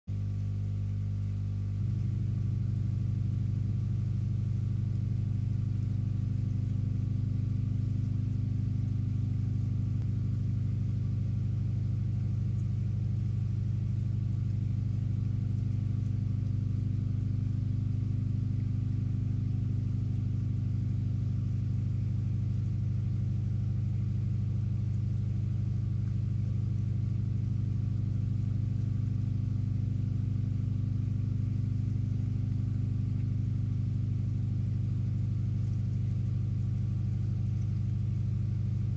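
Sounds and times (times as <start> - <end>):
low hum: 1.2 - 38.9.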